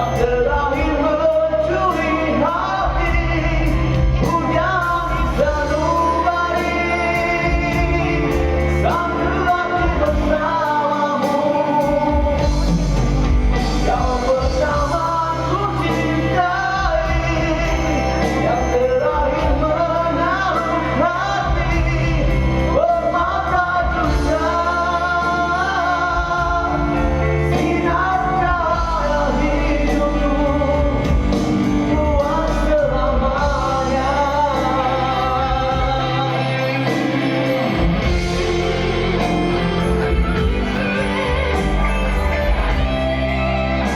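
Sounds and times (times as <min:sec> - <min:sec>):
instrumental backing: 0:00.0 - 0:43.9
person singing: 0:00.0 - 0:43.9.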